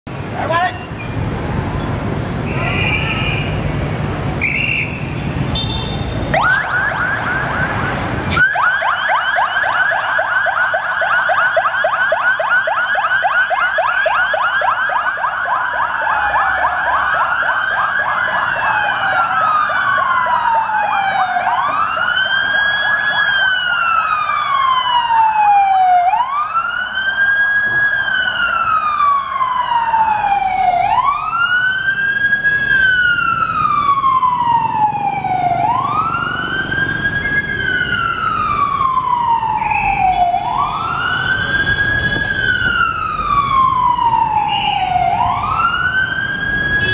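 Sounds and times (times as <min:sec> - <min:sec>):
siren wailing: 0:06.3 - 0:46.9
siren yelping: 0:06.3 - 0:46.9.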